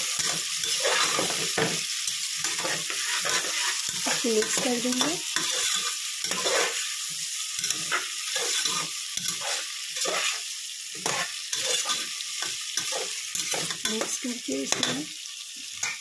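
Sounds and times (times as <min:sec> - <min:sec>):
spatula scraping the pan: 0:00.0 - 0:15.1
onions and tomato sizzling in oil: 0:00.0 - 0:16.0.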